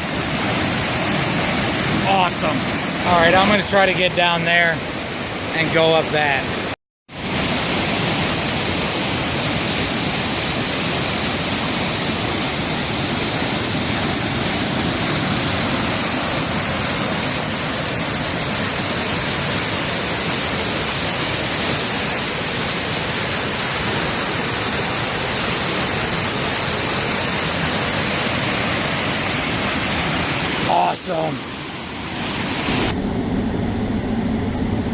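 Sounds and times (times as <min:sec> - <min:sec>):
waterfall rushing loudly: 0:00.0 - 0:33.0.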